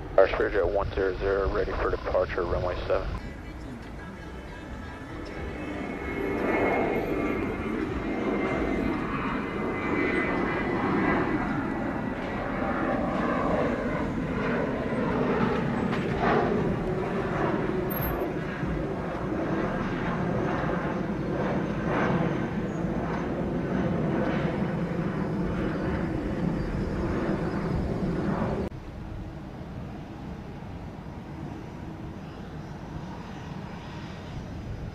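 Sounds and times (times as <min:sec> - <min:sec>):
jet engines at takeoff thrust: 0:00.0 - 0:34.9.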